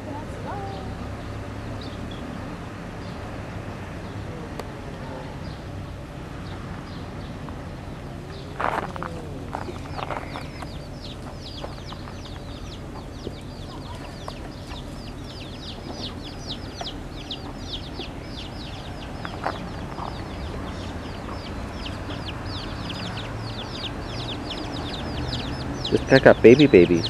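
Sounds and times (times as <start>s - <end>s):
chicks peeping: 4.0s - 27.0s.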